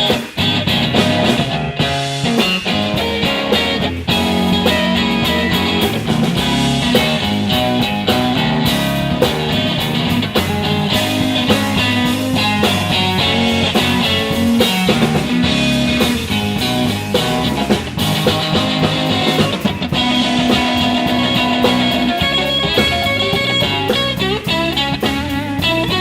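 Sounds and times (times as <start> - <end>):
bass: 0.0 - 26.0
drum kit steady beat: 0.0 - 26.0
guitar lines: 0.0 - 26.0.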